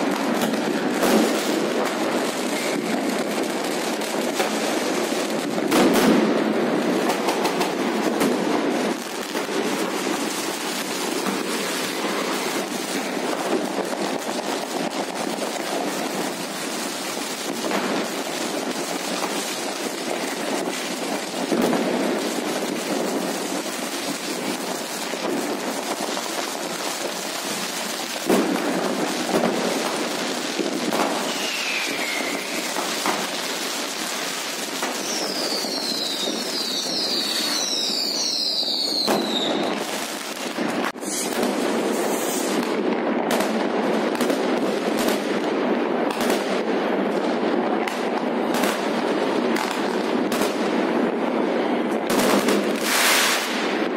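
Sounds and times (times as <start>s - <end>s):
falling firework whistles: 0.0s - 6.4s, 7.0s - 42.8s, 52.1s - 53.9s
fireworks crackling and banging: 0.0s - 53.9s.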